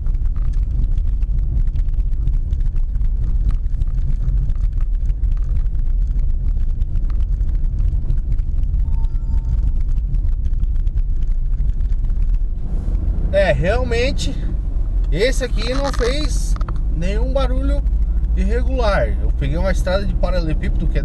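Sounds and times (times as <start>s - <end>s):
tyres rumbling on cobblestones: 0.0s - 21.0s.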